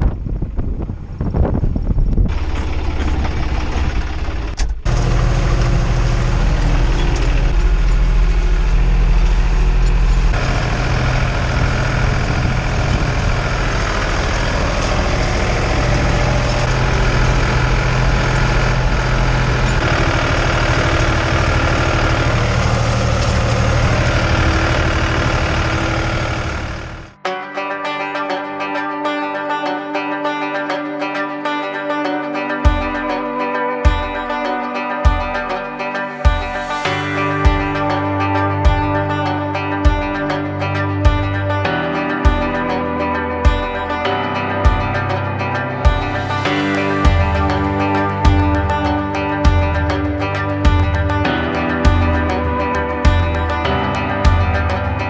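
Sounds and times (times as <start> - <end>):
tractor engine running: 0.2 - 27.2, 36.2 - 55.0.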